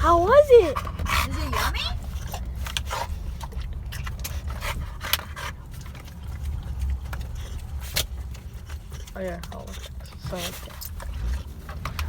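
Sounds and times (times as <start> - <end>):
dog licking and smacking: 0.0 - 12.0
low car rumble: 0.0 - 12.0.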